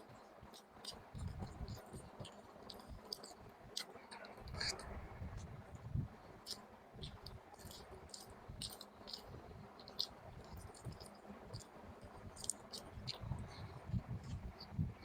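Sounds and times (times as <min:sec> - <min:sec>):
wet mouth clicks while chewing: 0:00.5 - 0:04.8, 0:06.4 - 0:14.8.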